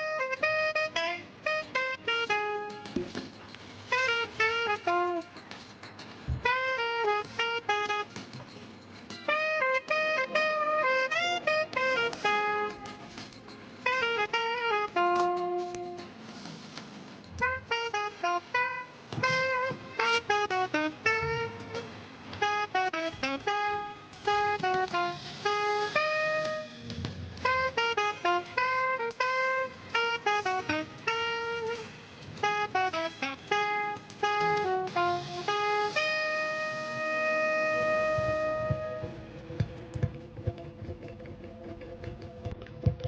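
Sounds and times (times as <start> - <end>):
instrumental melody of short notes: 6.3 - 16.2, 17.3 - 42.5.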